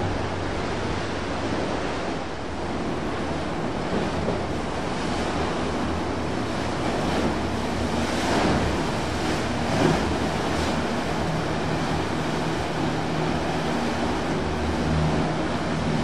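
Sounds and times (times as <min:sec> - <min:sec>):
outboard motor droning: 0:00.0 - 0:16.0
water splashing against boat hull: 0:00.0 - 0:16.0
wind on microphone: 0:00.0 - 0:16.0.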